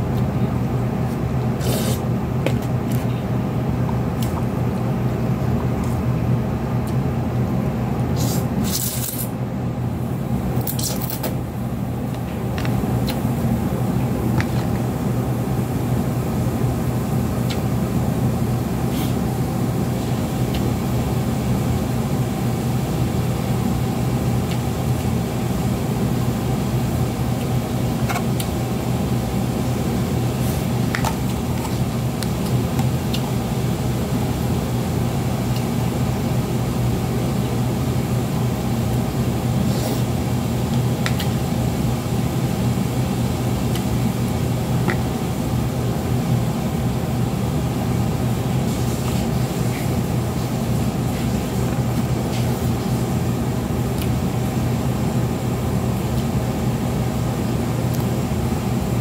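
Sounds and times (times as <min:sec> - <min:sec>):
appliance fan humming: 0:00.0 - 0:59.0.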